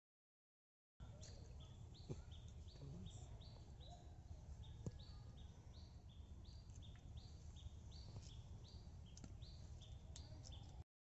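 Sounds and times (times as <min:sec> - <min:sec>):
faint outdoor ambience: 0:01.0 - 0:10.8
small bird chirping: 0:01.0 - 0:10.8.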